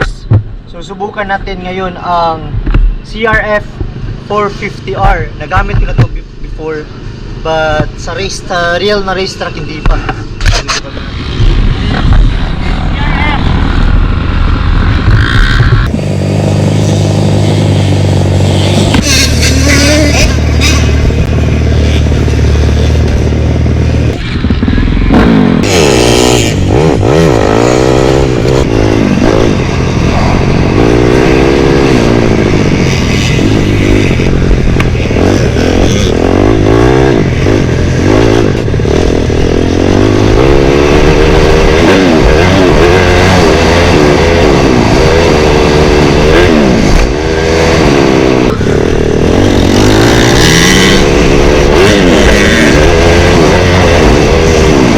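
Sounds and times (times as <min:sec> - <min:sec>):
motocross bike revving: 0:10.6 - 0:54.9.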